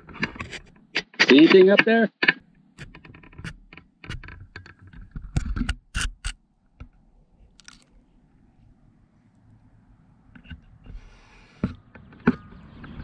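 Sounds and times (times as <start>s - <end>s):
camera scraping and knocking on bark: 0.0s - 8.7s, 10.2s - 13.0s.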